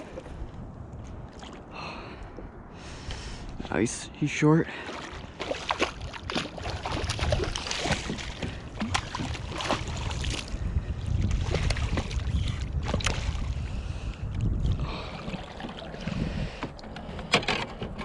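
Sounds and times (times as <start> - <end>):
water lapping against kayak hull: 0.0 - 2.5, 4.7 - 17.2
wind rumbling on microphone: 0.0 - 18.0.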